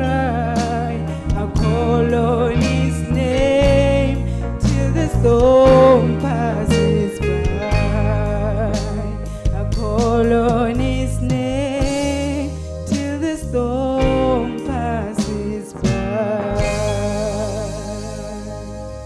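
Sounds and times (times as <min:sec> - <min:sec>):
bass line and beat: 0:00.0 - 0:19.0
electric guitar: 0:00.0 - 0:19.0
woman singing gospel with vibrato: 0:00.0 - 0:19.0.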